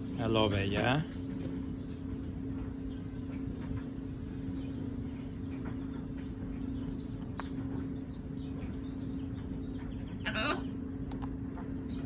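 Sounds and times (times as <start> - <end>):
low hum: 0.0 - 12.0
rumbling background noise: 0.0 - 12.0.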